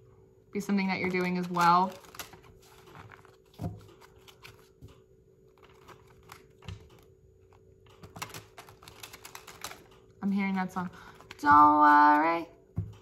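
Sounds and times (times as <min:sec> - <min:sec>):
cards being shuffled by hand: 0:01.0 - 0:13.0.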